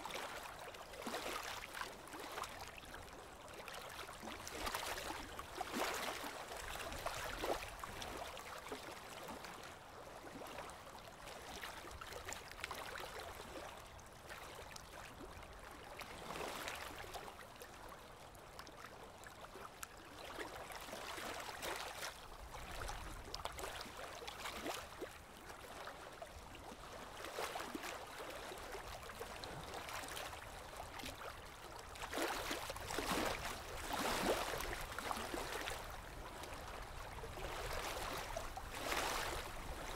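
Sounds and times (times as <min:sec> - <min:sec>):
water trickling in stream: 0:00.0 - 0:39.9.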